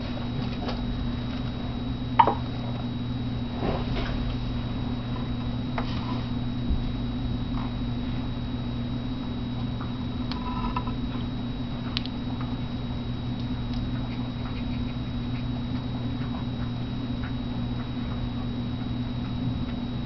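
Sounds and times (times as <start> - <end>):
steady low hum: 0.0 - 20.0
thin high whine: 0.0 - 20.0.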